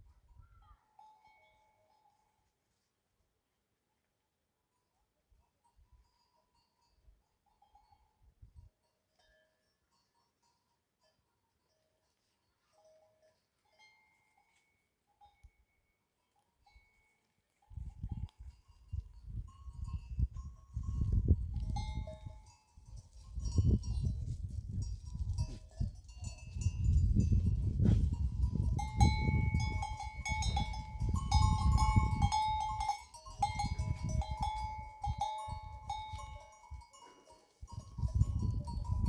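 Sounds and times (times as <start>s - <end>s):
animal bells clinking: 0.1s - 2.9s, 4.7s - 39.0s.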